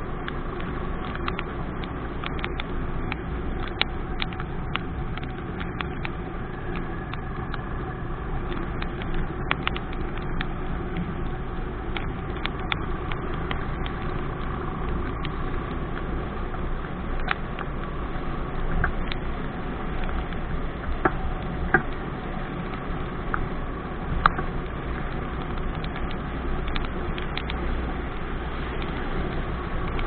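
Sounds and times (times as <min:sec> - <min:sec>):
motorcycle engine and road noise: 0:00.0 - 0:30.0
raindrops ticking on camera: 0:00.0 - 0:30.0.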